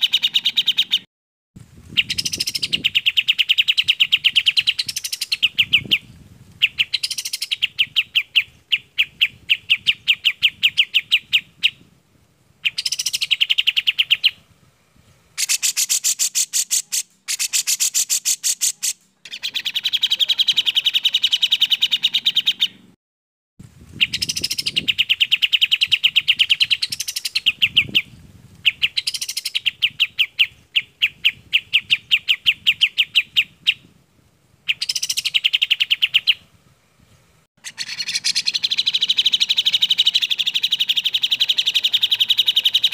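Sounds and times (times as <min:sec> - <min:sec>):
bulbul birdsong: 0:00.0 - 0:01.1, 0:01.9 - 0:11.8, 0:12.6 - 0:14.4, 0:15.4 - 0:23.0, 0:24.0 - 0:33.9, 0:34.7 - 0:36.4, 0:37.6 - 0:42.9.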